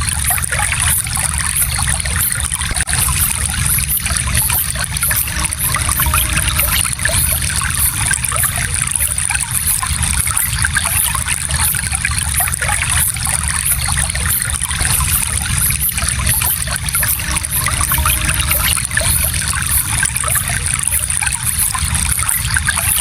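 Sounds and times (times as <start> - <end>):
stream babbling over stones: 0.0 - 23.0.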